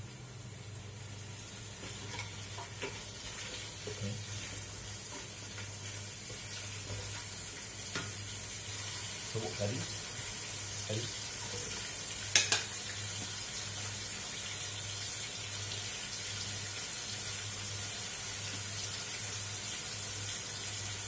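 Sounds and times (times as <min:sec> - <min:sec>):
spices sizzling in oil: 0:00.0 - 0:21.0.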